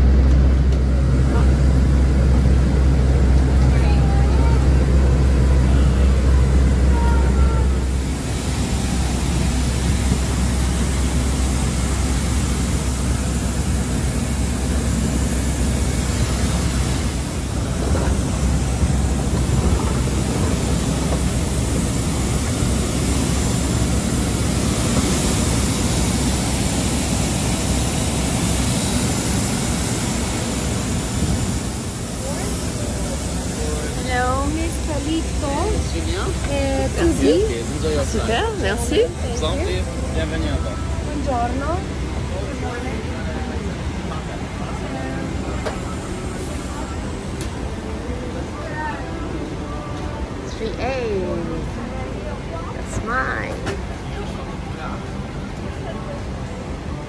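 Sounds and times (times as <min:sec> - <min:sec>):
airport apron noise: 0:00.0 - 0:57.0
bus engine rumbling: 0:00.0 - 0:57.0.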